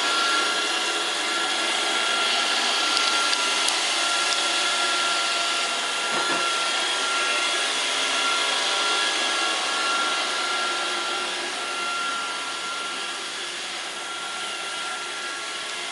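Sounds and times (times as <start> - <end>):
robot vacuum whirring: 0.0 - 15.9.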